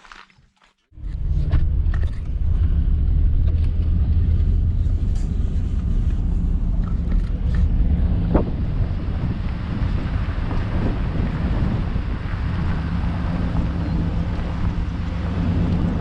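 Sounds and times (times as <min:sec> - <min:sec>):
engine rumbling: 0:00.9 - 0:16.0
wind buffeting microphone: 0:01.2 - 0:16.0.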